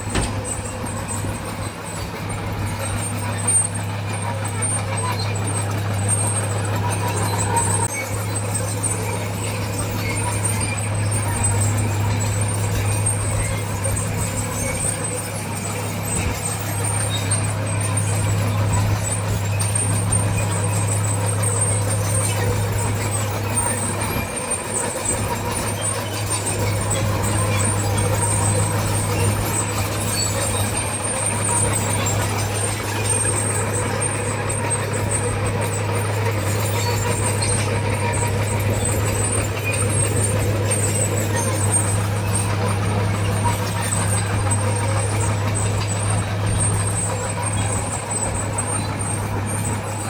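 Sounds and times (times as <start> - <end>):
heavy machine diesel engine: 0.0 - 50.0.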